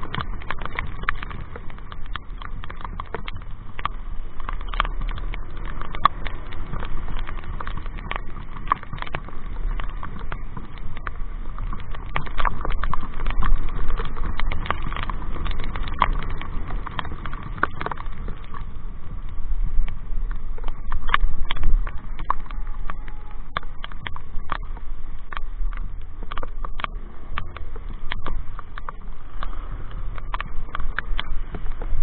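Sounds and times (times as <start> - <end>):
raindrops ticking on helmet: 0.0 - 32.0
wind rumbling on microphone: 0.0 - 32.0.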